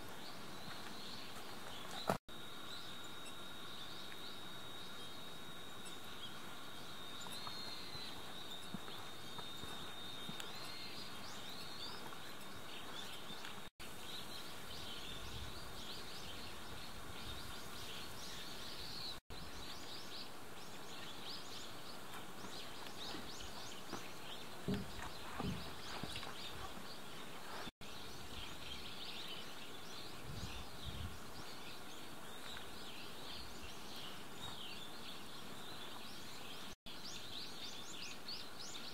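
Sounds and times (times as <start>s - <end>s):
small birds chirping: 0.0s - 38.9s
steady outdoor hiss: 0.0s - 38.9s.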